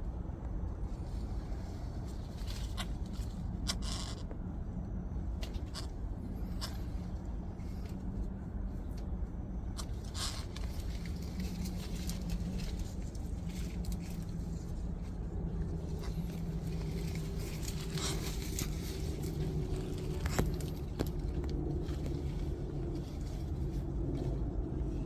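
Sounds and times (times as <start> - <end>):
low engine-like hum: 0.0 - 25.0
rustles: 0.1 - 4.4, 5.1 - 25.0.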